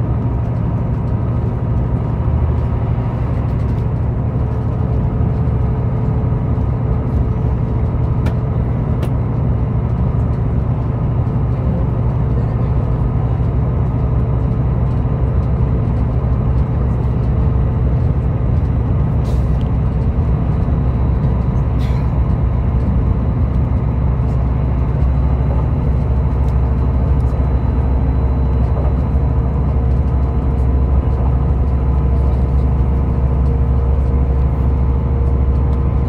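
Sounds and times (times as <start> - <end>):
train diesel engine rumble: 0.0 - 36.0
train wheels on rails: 0.0 - 36.0.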